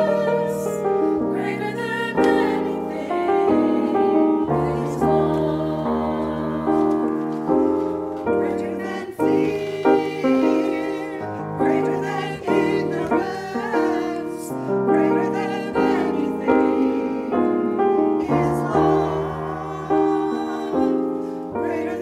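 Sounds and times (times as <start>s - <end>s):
mixed choir singing: 0.0s - 22.0s
piano accompaniment: 0.0s - 22.0s.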